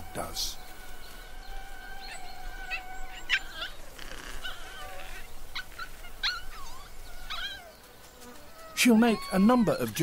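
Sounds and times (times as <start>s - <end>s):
animal pups whining: 1.9s - 10.0s.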